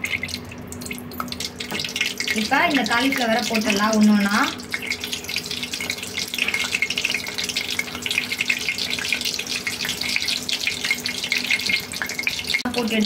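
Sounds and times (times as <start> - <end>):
deep-frying sizzle and crackle: 0.0 - 13.0.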